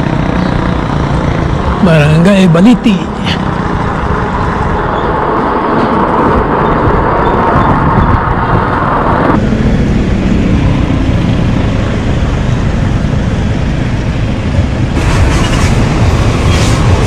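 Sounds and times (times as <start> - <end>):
rumbling road and wind noise: 0.0 - 17.0.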